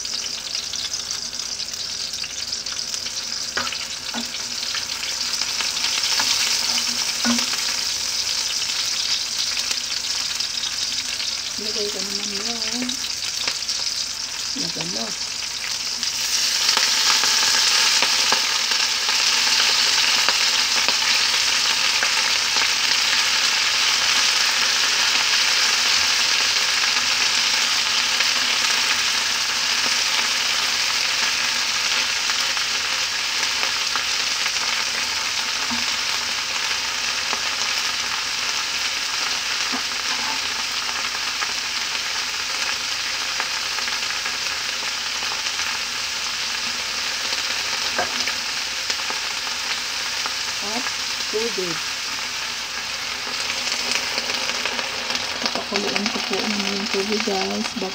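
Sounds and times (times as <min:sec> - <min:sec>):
leaves sizzling in hot oil: 0:00.0 - 0:57.9.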